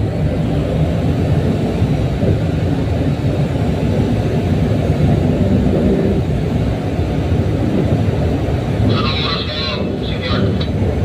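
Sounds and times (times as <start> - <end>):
diesel engine low rumble: 0.0 - 11.0.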